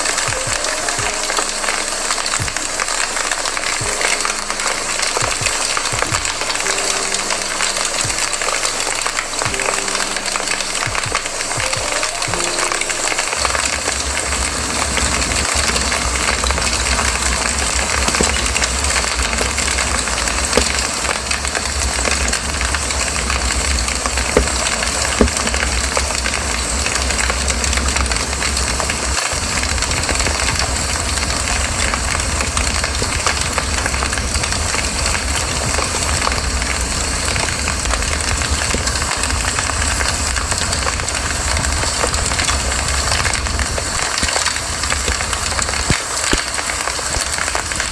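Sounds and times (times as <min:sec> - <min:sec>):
campfire hissing and crackling: 0:00.0 - 0:47.9.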